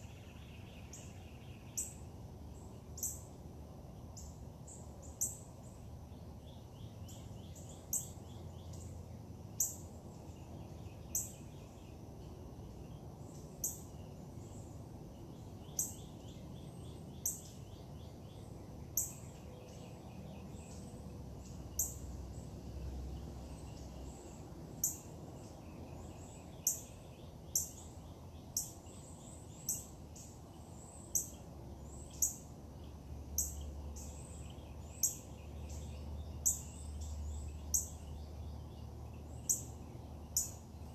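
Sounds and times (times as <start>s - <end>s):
faint birdsong: 0.0s - 40.9s.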